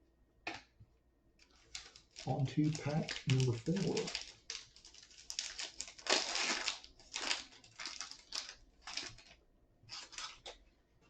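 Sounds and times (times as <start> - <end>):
wrapper tearing and crinkling: 1.4 - 10.7.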